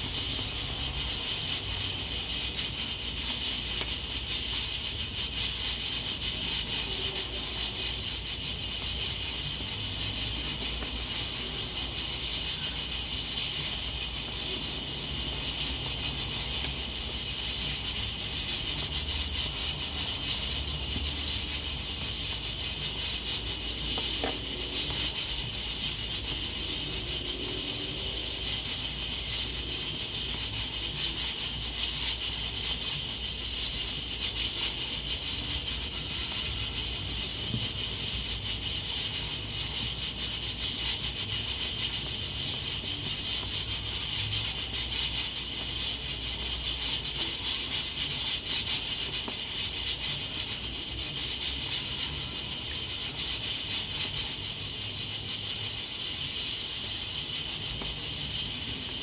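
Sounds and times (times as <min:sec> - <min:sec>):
pressure cooker hissing steam: 0:00.0 - 0:59.0.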